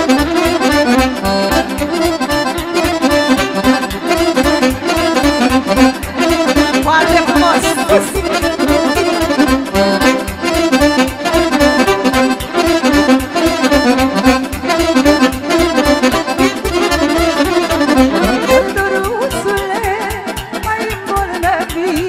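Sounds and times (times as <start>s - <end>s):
accordion fast melody: 0.0s - 22.0s.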